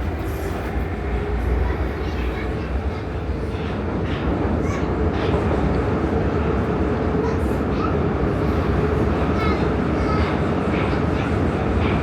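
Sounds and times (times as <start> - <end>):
metro train wheels rumbling: 0.0 - 12.0.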